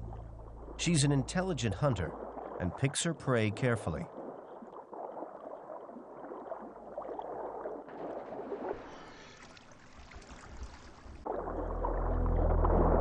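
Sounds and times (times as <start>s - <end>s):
sea water sloshing: 0.0s - 13.0s
water splashing: 0.0s - 13.0s.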